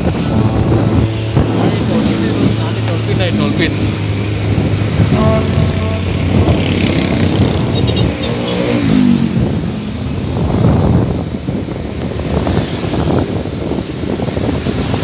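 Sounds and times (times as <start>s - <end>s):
motorcycle engines running: 0.0s - 15.0s
road and wind noise: 0.0s - 15.0s.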